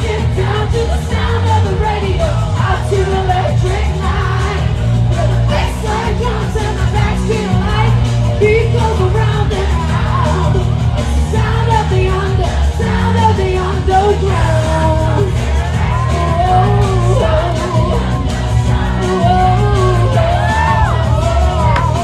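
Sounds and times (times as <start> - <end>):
crowd shouting and whooping: 0.0 - 22.0
live pop music with heavy bass: 0.0 - 22.0
person singing: 0.0 - 22.0.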